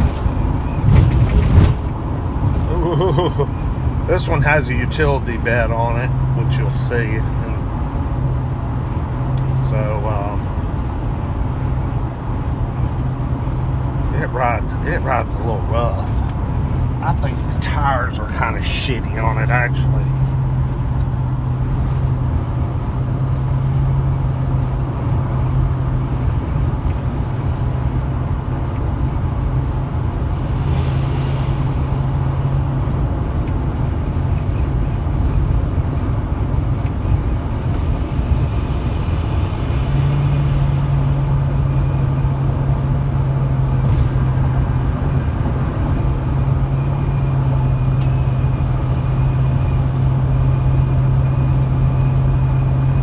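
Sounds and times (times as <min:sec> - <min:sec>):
truck engine running: 0:00.0 - 0:53.0
tyre and road noise: 0:00.0 - 0:53.0.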